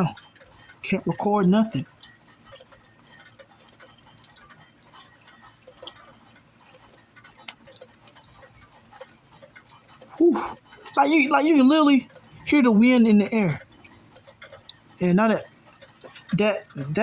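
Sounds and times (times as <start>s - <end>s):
light ticks and clicks: 0.0s - 17.0s.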